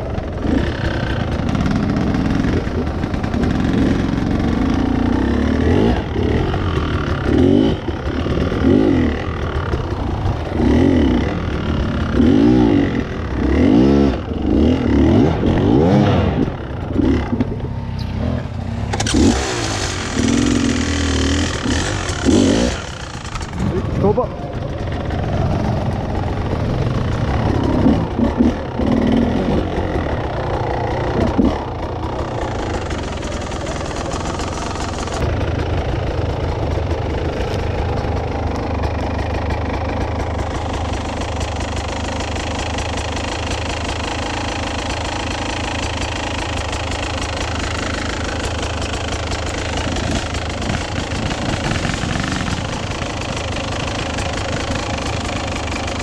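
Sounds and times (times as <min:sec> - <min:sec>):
dirt bike engines running: 0:00.0 - 0:56.0.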